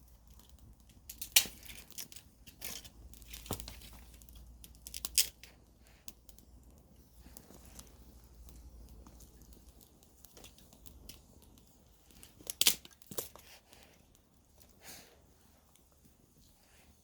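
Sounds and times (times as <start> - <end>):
campfire wood crackling: 0.0 - 17.0.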